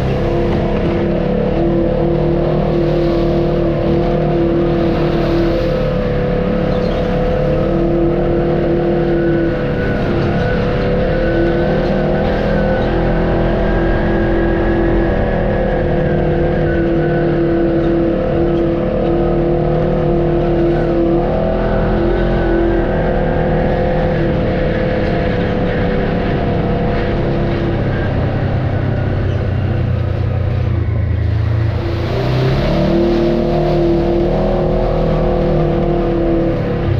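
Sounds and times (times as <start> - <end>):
off-road vehicle engine running: 0.0 - 36.9.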